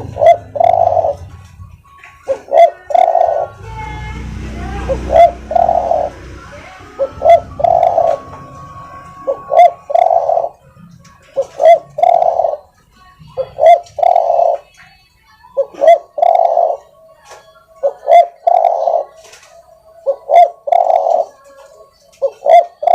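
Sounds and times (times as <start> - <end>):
dove cooing: 0.0 - 14.8, 15.4 - 22.9.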